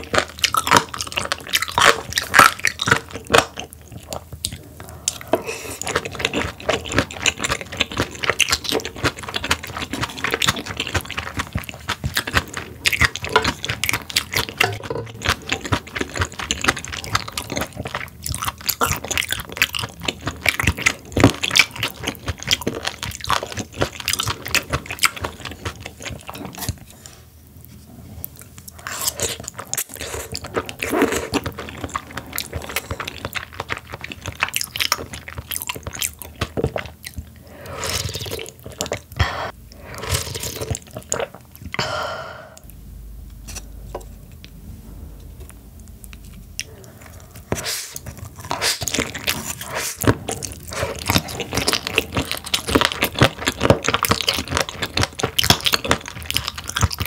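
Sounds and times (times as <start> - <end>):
close chewing and crunching: 0.0 - 42.0, 42.6 - 57.0.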